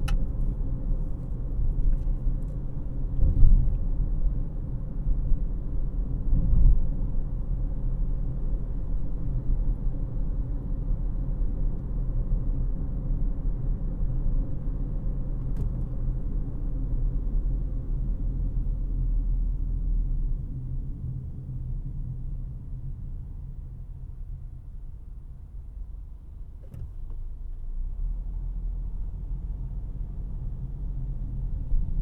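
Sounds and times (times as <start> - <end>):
road noise and engine rumble: 0.0 - 32.0.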